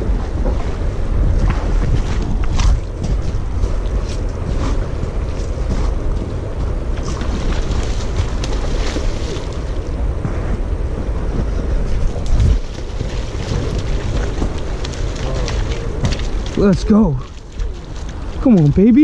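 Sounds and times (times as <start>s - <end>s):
river water washing on shore: 0.0s - 19.0s
wind buffeting microphone: 0.0s - 19.0s.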